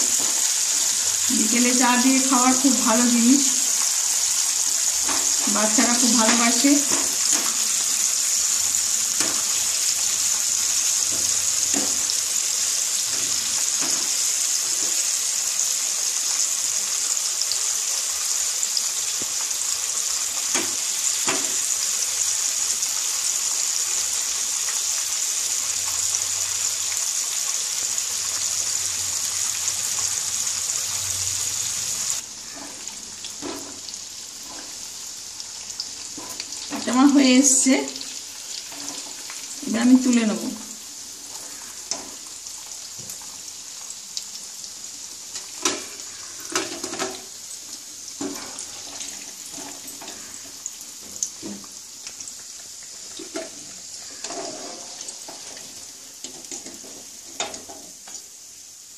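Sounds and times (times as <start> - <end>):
food deep-frying in oil: 0.0 - 58.9.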